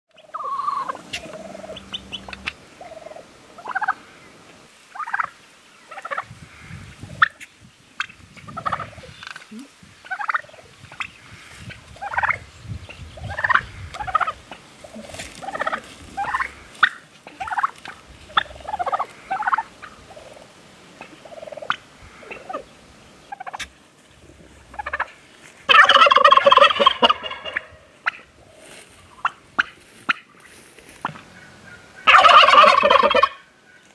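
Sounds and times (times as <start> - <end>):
turkeys clucking and chirping: 0.1 - 9.4, 10.0 - 33.9
turkey gobble: 0.2 - 4.2, 4.9 - 6.3, 7.1 - 9.4, 10.0 - 12.4, 13.2 - 23.7, 24.6 - 33.9.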